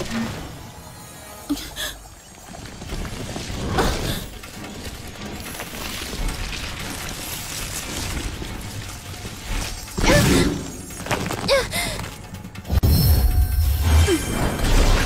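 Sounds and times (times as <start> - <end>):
dramatic background music: 0.0 - 15.0.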